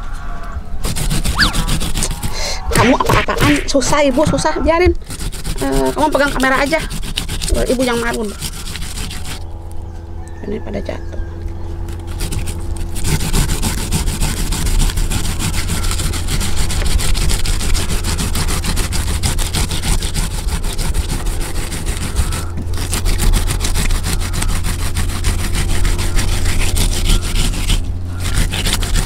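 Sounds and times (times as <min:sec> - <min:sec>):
low hum: 0:00.0 - 0:29.0
grater rasping: 0:00.8 - 0:09.5, 0:11.8 - 0:29.0.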